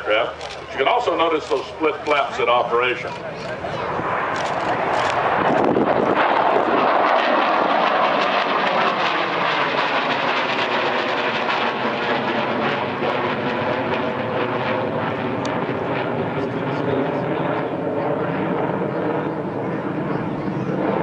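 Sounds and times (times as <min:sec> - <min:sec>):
jet aircraft flyover: 0:00.0 - 0:21.0.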